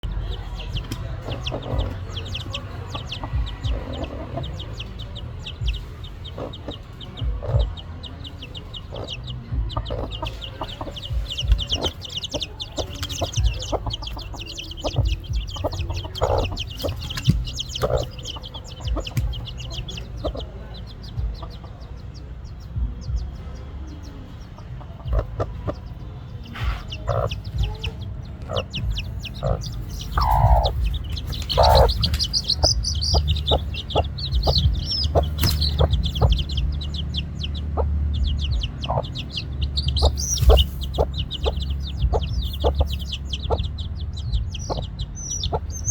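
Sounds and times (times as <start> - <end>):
birds chirping: 0.0 - 45.9
low clucking bird calls: 0.0 - 45.9.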